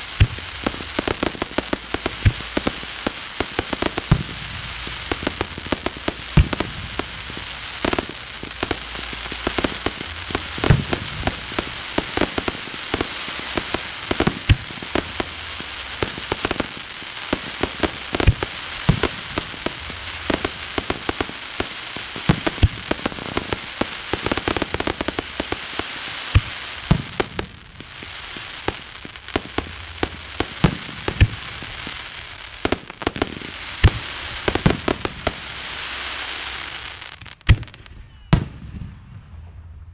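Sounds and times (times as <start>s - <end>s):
fireworks crackling: 0.0s - 39.9s
steady crackling hiss: 0.0s - 39.9s.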